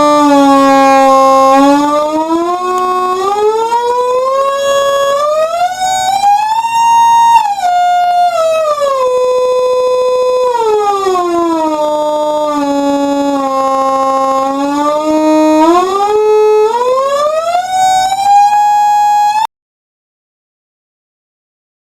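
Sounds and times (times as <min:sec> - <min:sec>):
buzzy synth tone gliding in pitch: 0:00.0 - 0:19.5.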